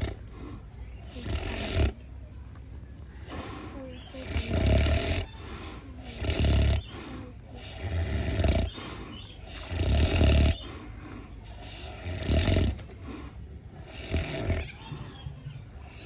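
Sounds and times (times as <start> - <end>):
pig snoring: 0.0 - 2.1, 3.2 - 15.2
pig breathing: 0.0 - 16.0.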